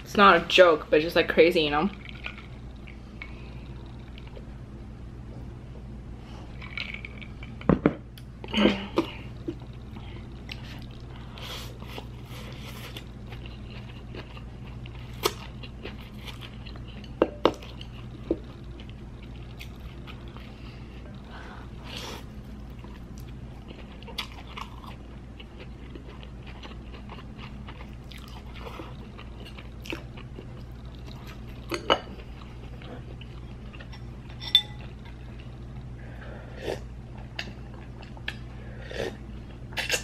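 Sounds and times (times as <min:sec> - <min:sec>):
low hum: 0:00.0 - 0:40.0.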